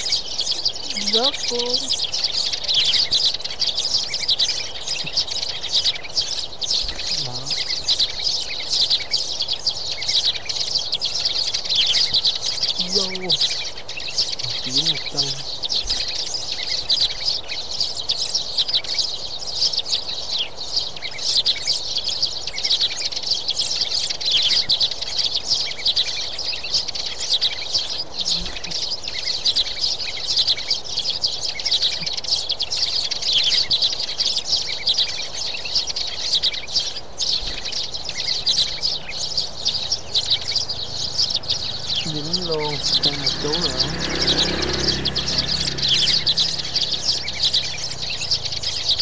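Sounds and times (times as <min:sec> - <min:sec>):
sparrows chirping: 0:00.0 - 0:49.0.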